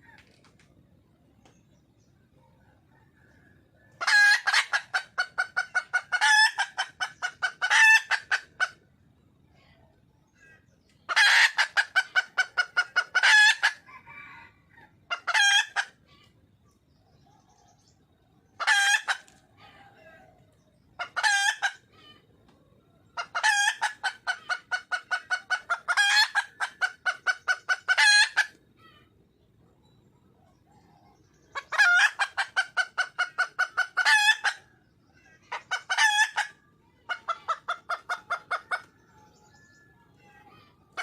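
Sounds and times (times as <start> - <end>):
junglefowl hen clucking: 0.0 - 41.0.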